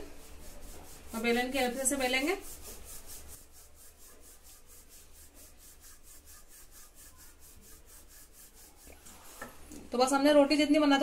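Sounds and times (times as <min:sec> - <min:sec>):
rolling pin rubbing on dough: 0:00.0 - 0:11.0.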